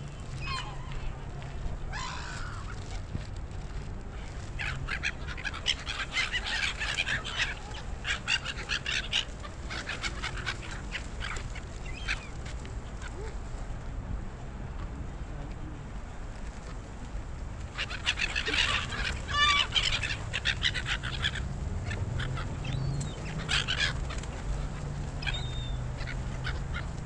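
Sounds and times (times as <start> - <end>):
gulls calling: 0.0 - 3.2, 4.2 - 13.4, 17.7 - 27.0.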